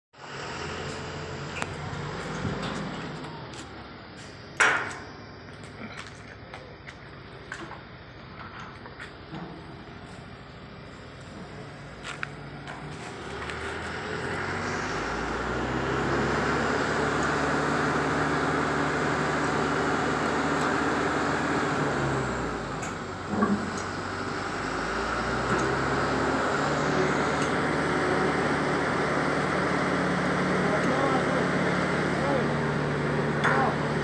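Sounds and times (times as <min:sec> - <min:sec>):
crane diesel engine revving: 0:00.2 - 0:06.4, 0:09.2 - 0:34.0.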